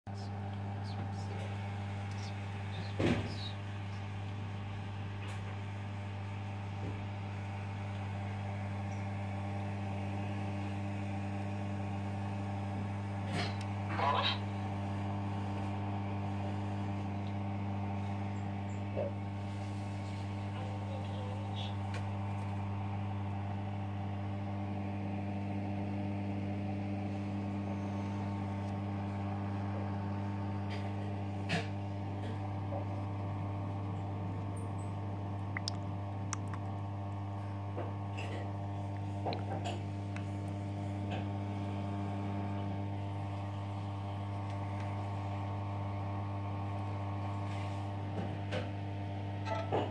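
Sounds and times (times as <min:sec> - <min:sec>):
aquarium pump humming: 0:00.1 - 0:49.9.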